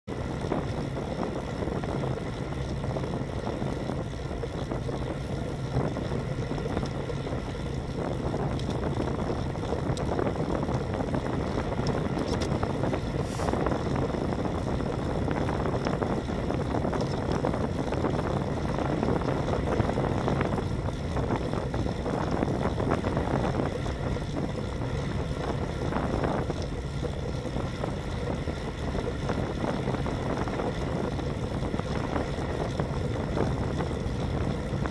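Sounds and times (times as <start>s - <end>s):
road noise: 0.0s - 34.9s
wind rush: 0.1s - 34.9s.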